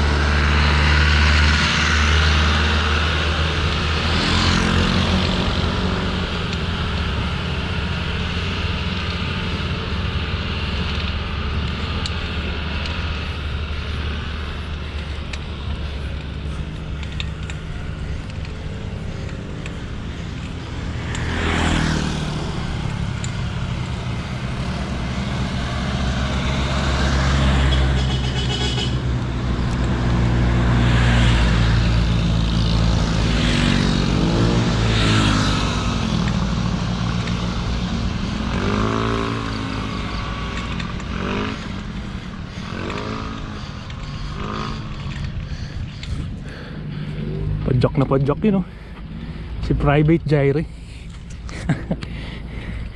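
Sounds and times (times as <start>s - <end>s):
passing vehicle engines: 0.0s - 52.9s.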